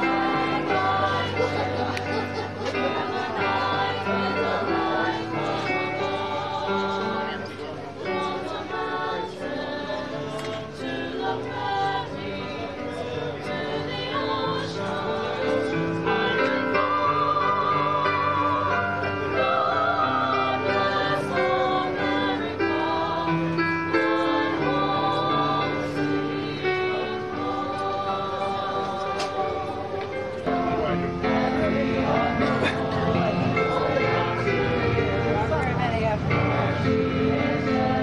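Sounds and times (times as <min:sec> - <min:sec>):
choir of young voices singing: 0:00.0 - 0:38.0
electronic keyboard accompaniment: 0:00.0 - 0:38.0.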